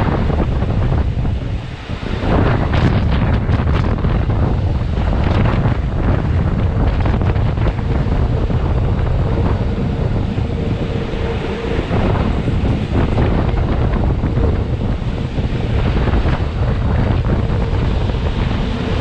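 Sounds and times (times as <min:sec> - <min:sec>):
train running noise: 0:00.0 - 0:19.0
wind buffeting microphone: 0:00.0 - 0:19.0
faint steady whine: 0:00.9 - 0:19.0.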